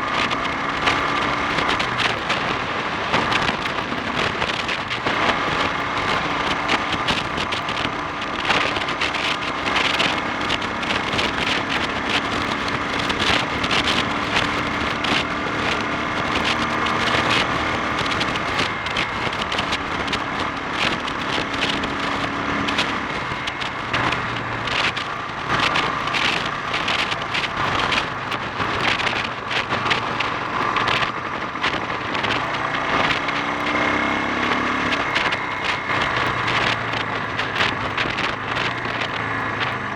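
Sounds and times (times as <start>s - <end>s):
crackling and rushing noise: 0.0s - 39.9s
motorcycle engine running: 0.0s - 39.9s.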